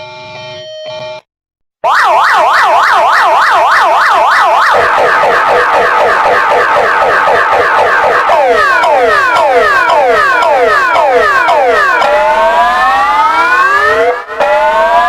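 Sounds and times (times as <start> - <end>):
alarm siren yelp: 1.8 - 15.0.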